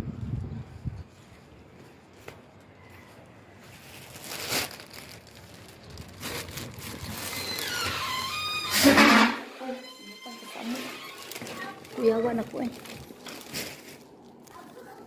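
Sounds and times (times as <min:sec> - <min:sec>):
rustling and crinkling handling: 0:01.1 - 0:15.0.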